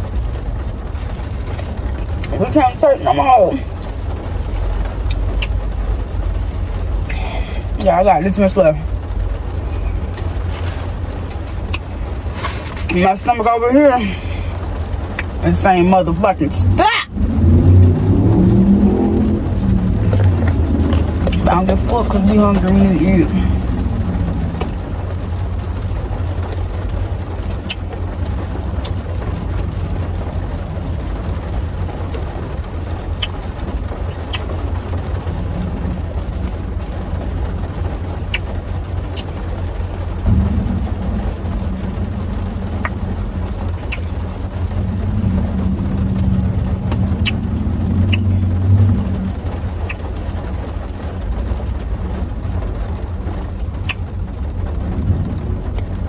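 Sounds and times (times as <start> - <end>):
car idling from inside: 0.0 - 15.3, 16.9 - 56.0.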